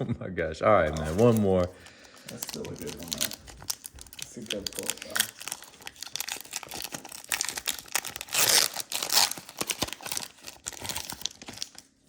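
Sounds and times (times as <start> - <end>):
foil wrapper crinkling and tearing: 0.9 - 12.0.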